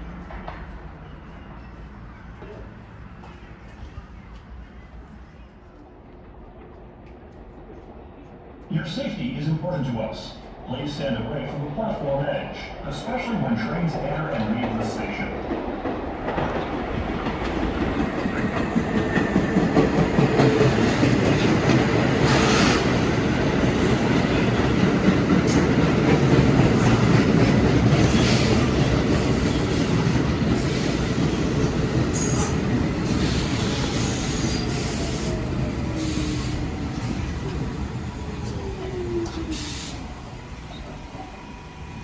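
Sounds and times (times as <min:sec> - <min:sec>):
subway train wheels rumbling on rails: 0:00.0 - 0:42.0.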